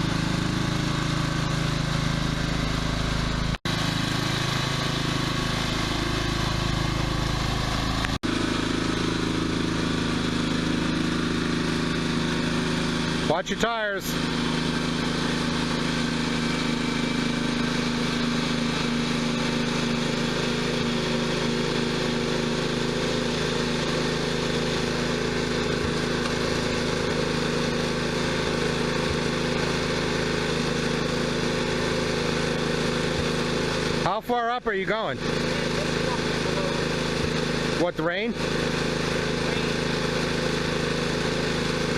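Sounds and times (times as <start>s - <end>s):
tractor engine running steadily: 0.0s - 41.9s.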